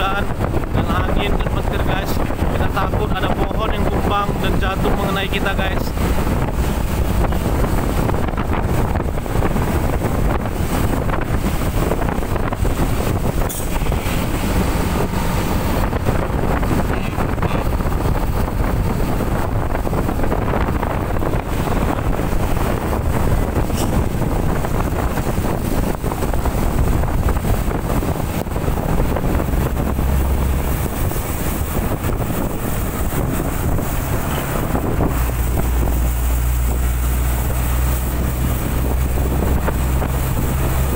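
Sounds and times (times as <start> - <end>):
strong wind buffeting microphone: 0.0 - 40.9.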